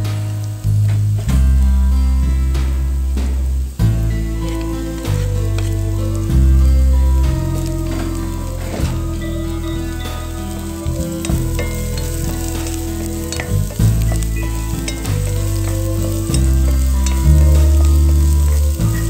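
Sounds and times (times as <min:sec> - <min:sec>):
background music with low notes: 0:00.0 - 0:19.0
onion and garlic frying in oil: 0:00.0 - 0:19.0.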